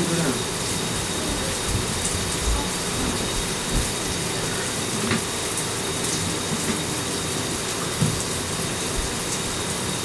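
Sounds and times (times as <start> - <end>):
shower water running into bathtub: 0.0 - 10.0.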